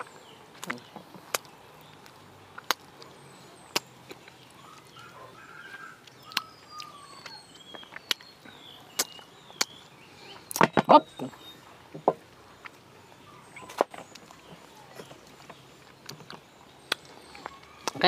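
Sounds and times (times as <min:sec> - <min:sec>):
birds chirping: 0:00.0 - 0:18.0
quiet chewing: 0:00.0 - 0:18.0.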